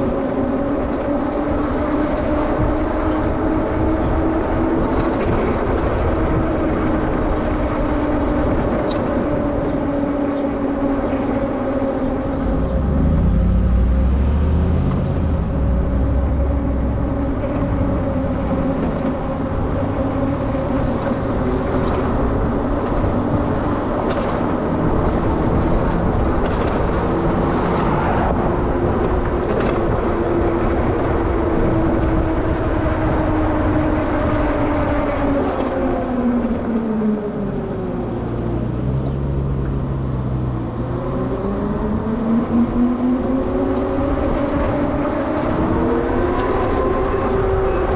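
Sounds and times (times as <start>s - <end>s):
wind and road rush: 0.0s - 47.9s.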